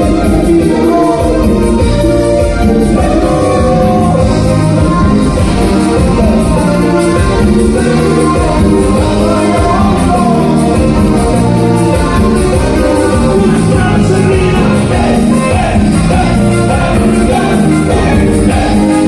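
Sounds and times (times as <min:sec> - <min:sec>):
latin band music with singing: 0:00.0 - 0:19.0.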